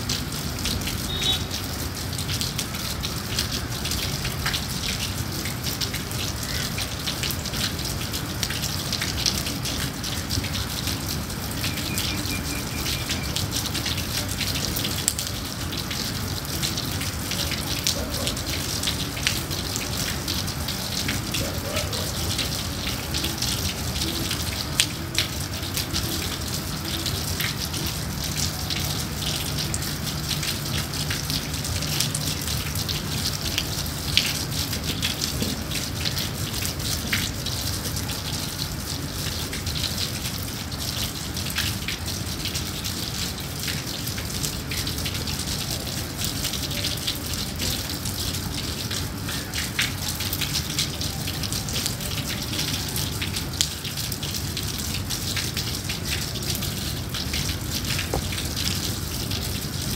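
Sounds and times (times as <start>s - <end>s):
patter of raindrops: 0.0s - 59.9s
rain falling: 0.0s - 59.9s.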